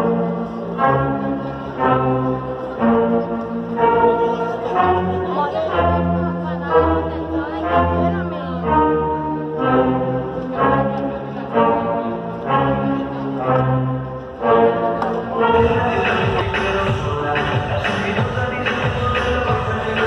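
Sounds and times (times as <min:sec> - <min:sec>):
slow music with long notes: 0:00.0 - 0:20.0.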